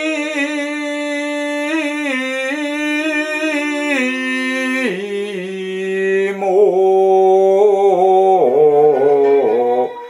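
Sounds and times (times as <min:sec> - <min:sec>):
person chanting long vowel: 0:00.0 - 0:10.0.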